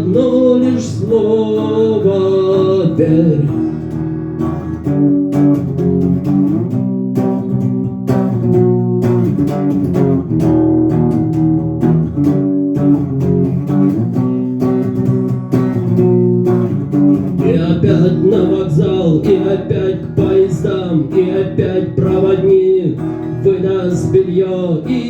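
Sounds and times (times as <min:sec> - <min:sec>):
rock guitars and bass: 0:00.0 - 0:25.0.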